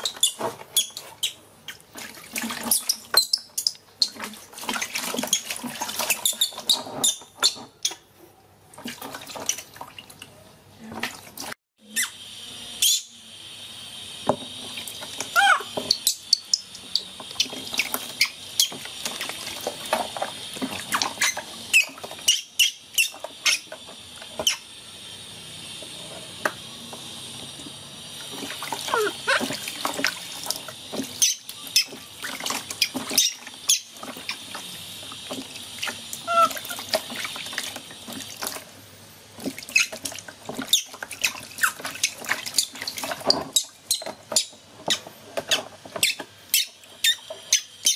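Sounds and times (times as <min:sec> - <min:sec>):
water splashing in plastic tub: 0:00.0 - 0:07.8, 0:08.6 - 0:11.6, 0:16.8 - 0:24.6, 0:27.5 - 0:47.6.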